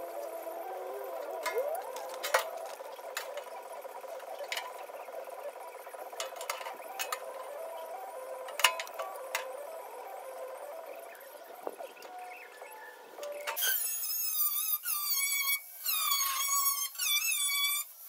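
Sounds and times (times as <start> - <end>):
faint steady hum: 0.0 - 17.8.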